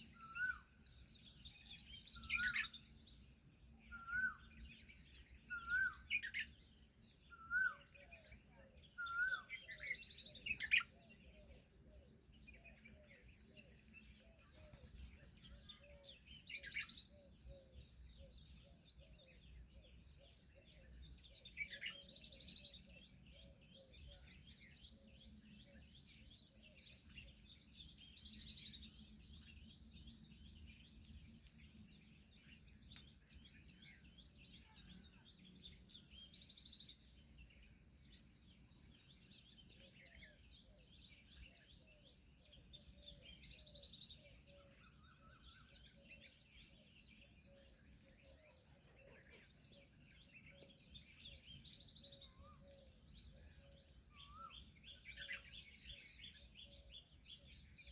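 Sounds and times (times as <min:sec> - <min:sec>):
chorus of high bird chirps: 0:00.0 - 0:57.9.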